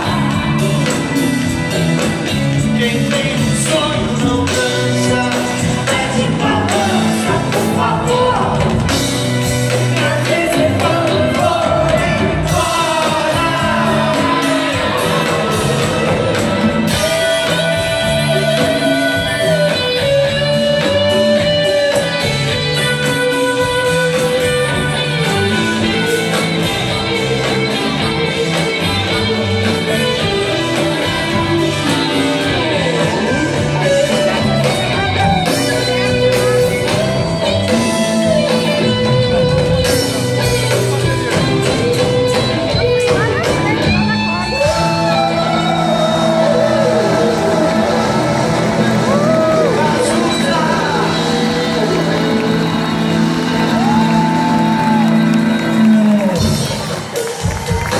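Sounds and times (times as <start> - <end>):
person singing lead vocals: 0.0 - 57.0
rock band playing live: 0.0 - 57.9.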